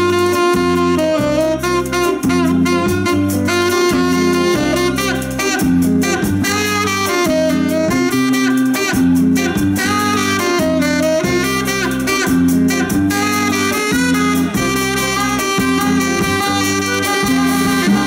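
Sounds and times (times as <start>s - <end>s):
live band playing: 0.0s - 18.0s
saxophone solo: 0.0s - 18.0s.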